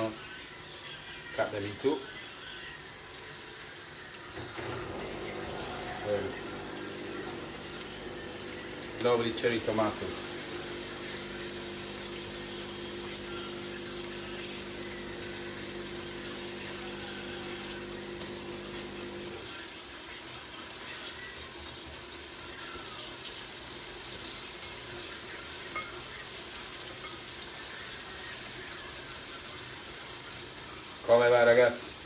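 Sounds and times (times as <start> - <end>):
vegetables sizzling in a pan: 0.0 - 32.0.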